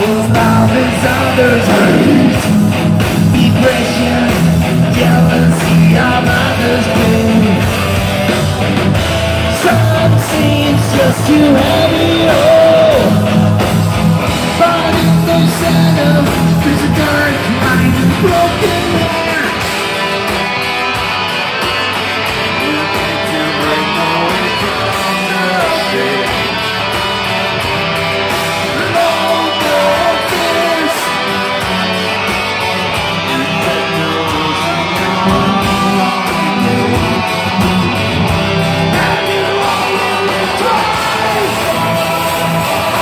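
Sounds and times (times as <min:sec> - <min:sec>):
bass: 0:00.0 - 0:43.0
drums: 0:00.0 - 0:43.0
electric guitars: 0:00.0 - 0:43.0.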